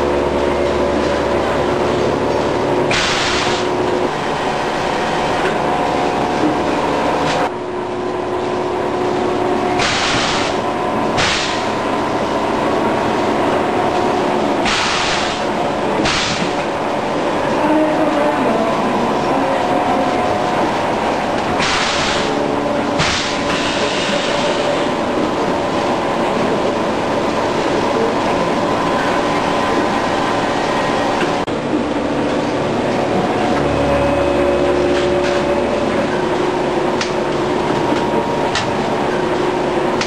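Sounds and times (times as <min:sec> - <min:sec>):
machine hum with tones: 0:00.0 - 0:40.0.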